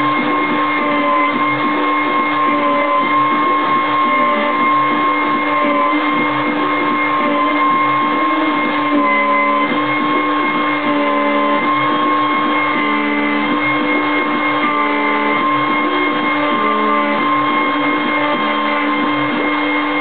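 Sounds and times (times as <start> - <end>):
router spindle whine: 0.0 - 20.0
stepper motor tones: 0.0 - 20.0.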